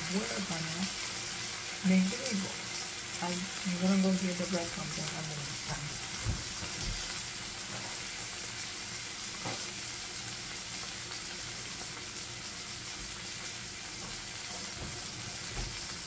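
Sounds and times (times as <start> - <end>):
onions sizzling in a pot: 0.0 - 16.0.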